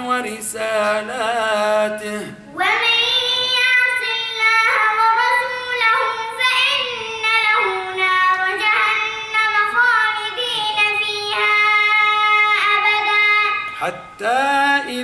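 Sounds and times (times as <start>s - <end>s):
boy chanting recitation: 0.0s - 15.0s.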